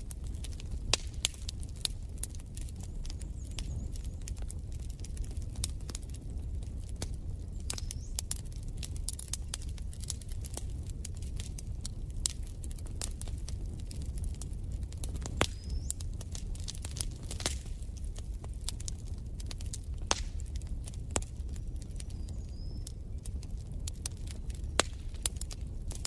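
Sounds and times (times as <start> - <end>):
fire hissing: 0.0 - 22.1
wood fire crackling: 0.0 - 26.0.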